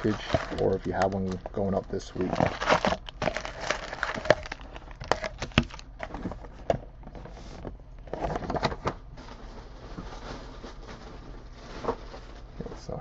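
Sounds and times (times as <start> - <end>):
foil wrappers crinkling: 0.0 - 7.2, 8.1 - 13.0.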